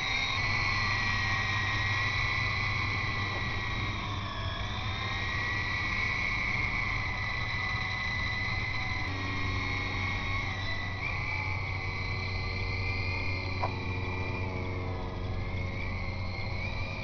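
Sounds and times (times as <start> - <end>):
rc helicopter rotor whine: 0.0 - 17.0.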